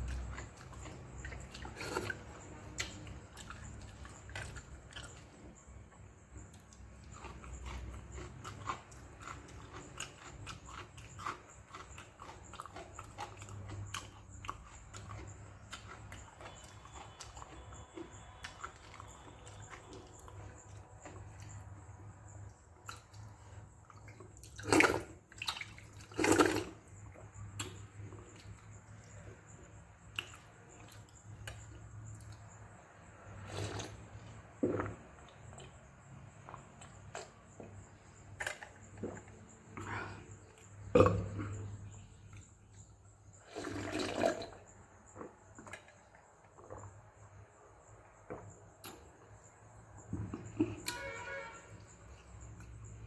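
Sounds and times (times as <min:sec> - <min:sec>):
wet chewing and slurping: 0:00.0 - 0:47.4.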